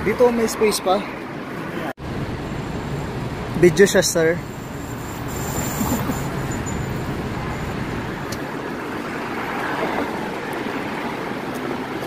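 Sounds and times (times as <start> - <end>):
traffic noise hiss: 1.7 - 12.0.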